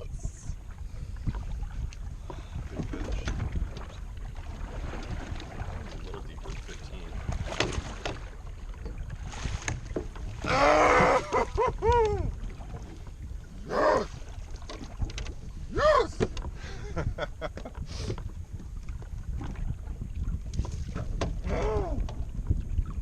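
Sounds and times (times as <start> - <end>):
water noise: 0.0 - 23.0
wind buffeting microphone: 0.0 - 23.0.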